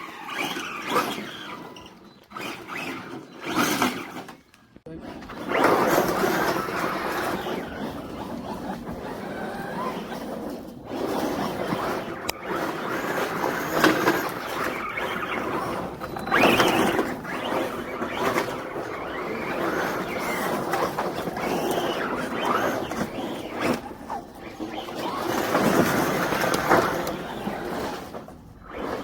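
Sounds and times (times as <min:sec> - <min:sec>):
radio-controlled car motor running: 0:00.0 - 0:29.0.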